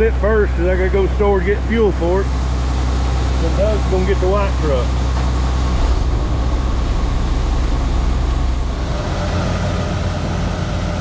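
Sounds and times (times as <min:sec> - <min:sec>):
heavy vehicle engine drone: 0:01.5 - 0:11.0.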